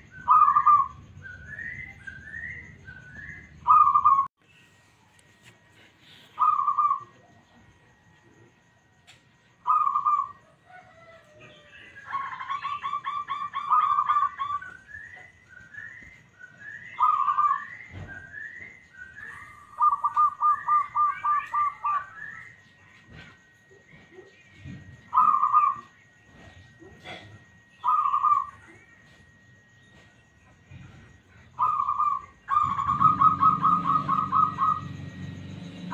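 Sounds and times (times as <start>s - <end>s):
dove cooing: 0.0s - 4.3s, 6.1s - 7.6s, 9.6s - 22.4s, 23.1s - 29.1s, 30.7s - 35.9s.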